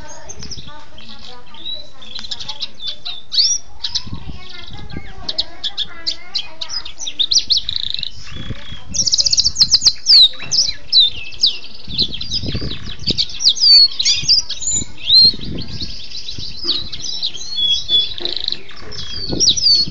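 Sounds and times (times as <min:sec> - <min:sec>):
canary singing trills: 0:00.0 - 0:19.9.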